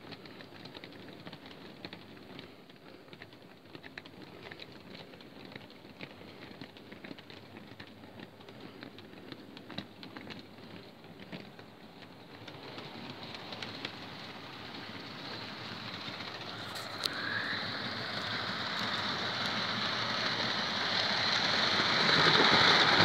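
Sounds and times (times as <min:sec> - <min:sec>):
model train wagons rumbling: 0:00.0 - 0:23.0
wheel clicks on rails: 0:00.0 - 0:23.0.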